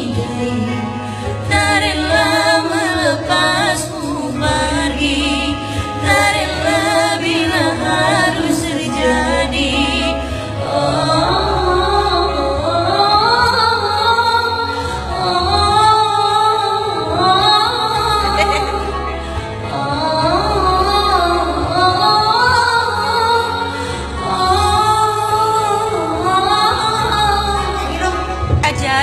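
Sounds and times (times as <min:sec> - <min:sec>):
long steady bass notes: 0:00.0 - 0:29.0
woman singing slow melody: 0:00.0 - 0:29.0.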